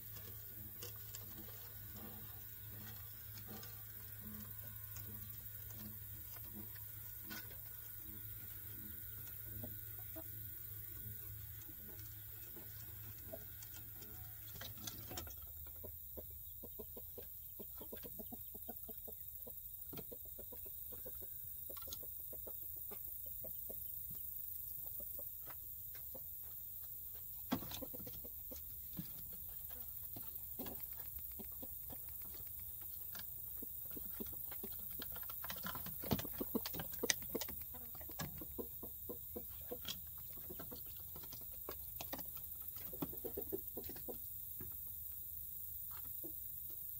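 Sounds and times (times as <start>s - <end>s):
hens clucking softly: 0.0s - 46.9s.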